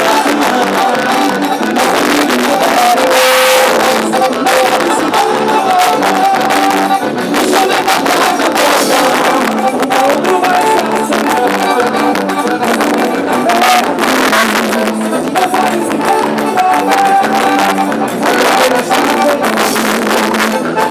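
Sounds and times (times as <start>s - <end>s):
loud festival dance music: 0.0s - 20.9s.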